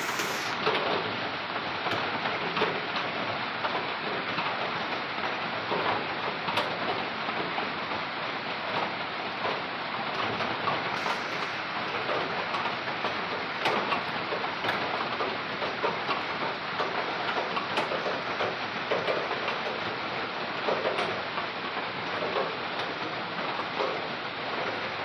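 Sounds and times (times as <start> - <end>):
drizzling rain hiss: 0.0 - 5.9, 7.0 - 25.0
raindrops ticking on surfaces: 0.0 - 25.0.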